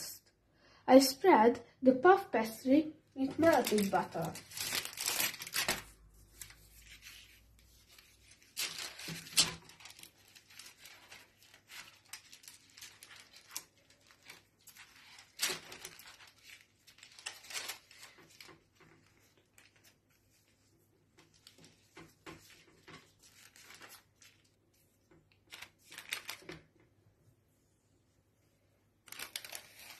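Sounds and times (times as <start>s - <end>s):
baking paper rustling and crinkling: 3.2s - 26.8s, 29.0s - 29.9s.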